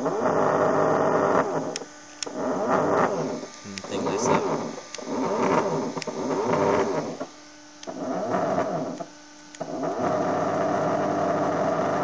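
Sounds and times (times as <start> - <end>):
low steady hum: 0.0 - 12.0
stepper motor whining: 0.0 - 12.0.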